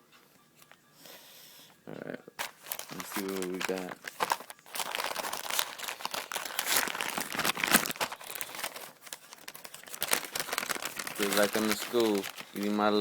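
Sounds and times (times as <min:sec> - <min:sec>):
plastic packaging crinkling and tearing: 0:02.4 - 0:13.0.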